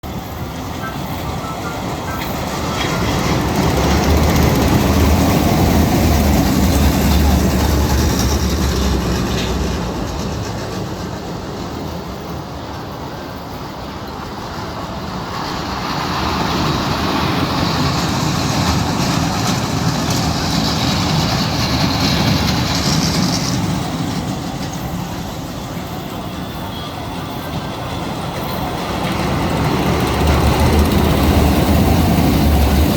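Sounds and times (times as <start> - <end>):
toy train rumbling on track: 0.0 - 32.9.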